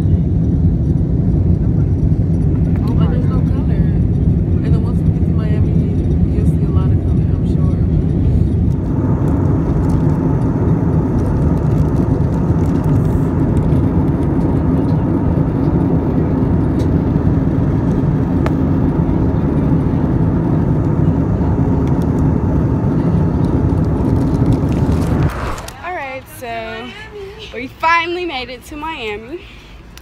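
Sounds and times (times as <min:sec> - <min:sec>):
faint steady hum: 0:00.0 - 0:30.0
jet engine and airflow rush: 0:00.0 - 0:30.0.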